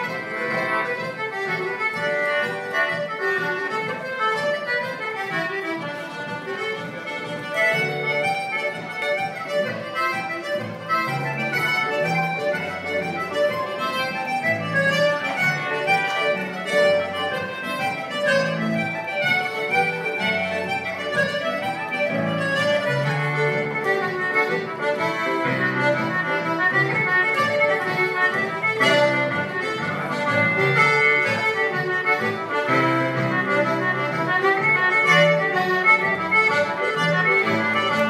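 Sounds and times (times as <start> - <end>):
button accordion melody: 0.0 - 38.0
traditional folk ensemble playing: 0.0 - 38.0.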